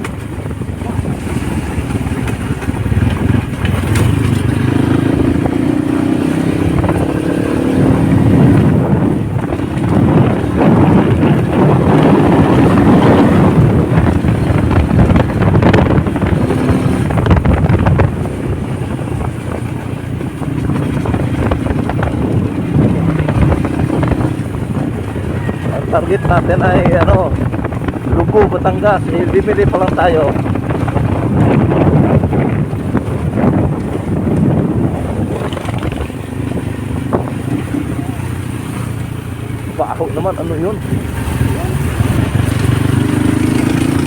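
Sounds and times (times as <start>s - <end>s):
motorcycle engine running: 0.0s - 44.0s
road noise: 0.0s - 44.0s.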